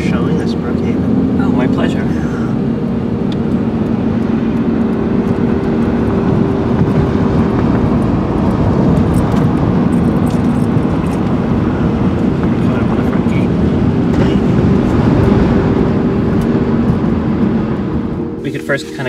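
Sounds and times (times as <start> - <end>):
car engine hum: 0.0 - 19.0
road noise: 0.0 - 19.0.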